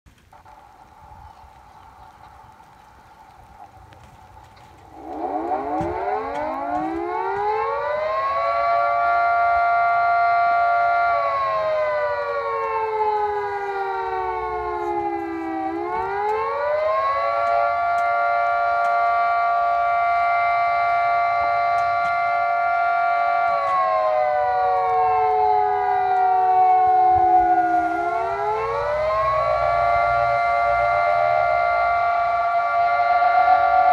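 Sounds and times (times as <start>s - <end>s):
siren winding up and wailing: 4.0s - 33.9s.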